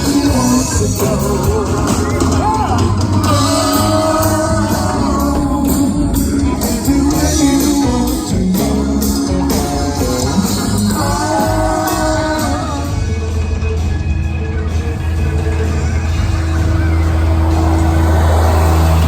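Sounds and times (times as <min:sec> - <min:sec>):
rock band instrumental: 0:00.0 - 0:19.0.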